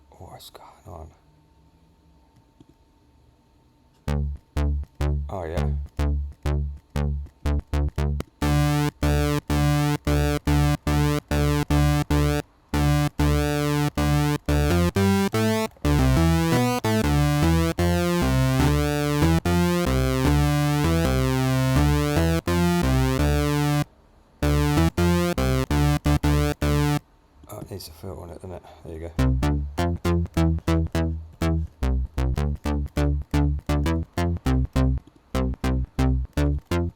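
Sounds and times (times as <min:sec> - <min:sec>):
square-wave synth notes: 0:04.1 - 0:27.0, 0:29.2 - 0:36.9.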